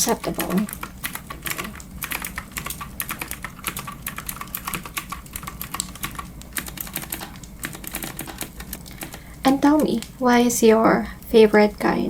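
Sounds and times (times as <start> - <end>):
typing on clicky keyboard: 0.0 - 10.2.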